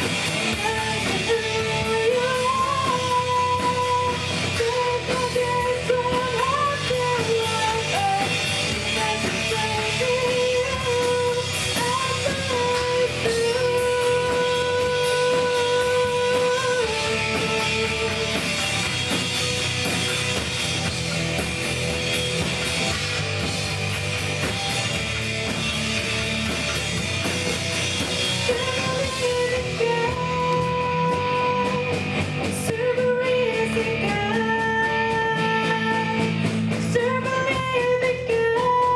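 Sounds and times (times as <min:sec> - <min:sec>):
drum kit: 0:00.0 - 0:38.9
guitar: 0:00.0 - 0:38.9.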